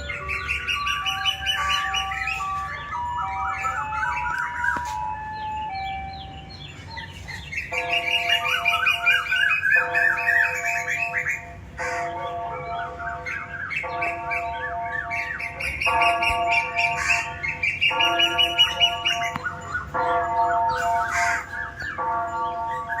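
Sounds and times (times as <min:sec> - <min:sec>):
birds chirping and squawking: 0:00.0 - 0:23.0
steady held tones: 0:00.0 - 0:23.0.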